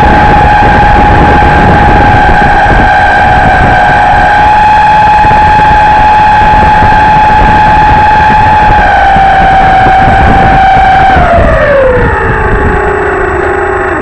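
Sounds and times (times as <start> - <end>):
model plane motors droning: 0.0 - 14.0
wind rumble on microphone: 0.0 - 14.0.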